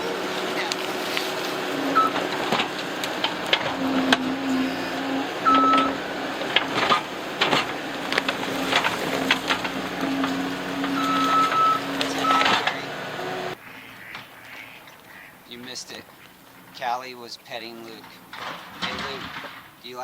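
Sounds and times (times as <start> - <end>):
high whine: 0.0 - 19.9
knocks and clanks: 0.0 - 20.0
skid steer engine running: 0.0 - 20.0.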